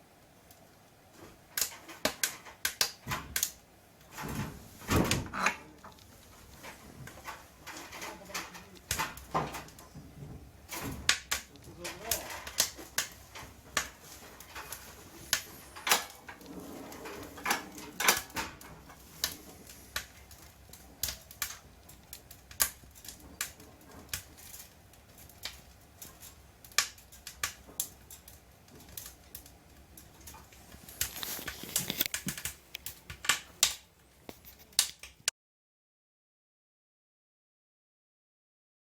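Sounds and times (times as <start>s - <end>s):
wood fire crackling in stove: 0.0s - 35.3s.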